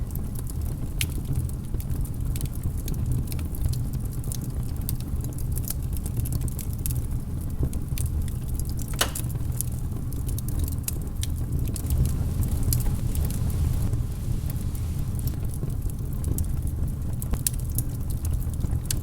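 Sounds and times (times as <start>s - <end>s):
low fire rumble: 0.0s - 19.0s
wood fire crackling: 0.2s - 19.0s.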